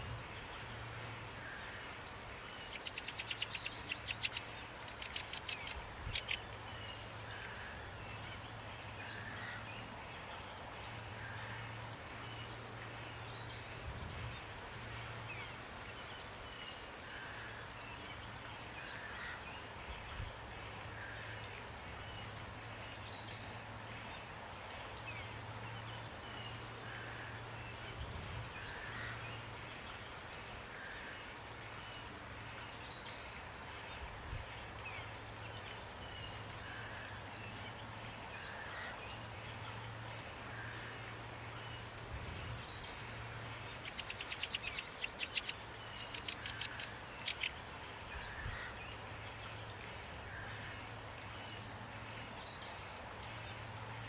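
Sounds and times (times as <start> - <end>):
small birds chirping: 0.0 - 28.0, 30.7 - 54.0
rain hiss: 0.0 - 54.0.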